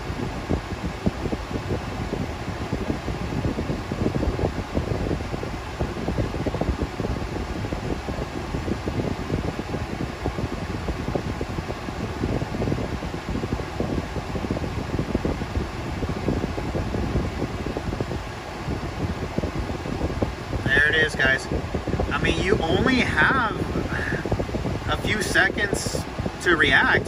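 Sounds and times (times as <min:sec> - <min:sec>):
air-conditioning fan blowing: 0:00.0 - 0:27.0
low rumble: 0:00.0 - 0:27.0.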